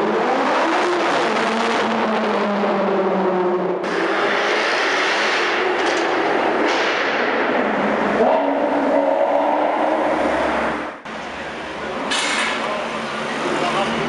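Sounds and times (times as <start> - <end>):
cars passing through tunnel: 0.0 - 14.0.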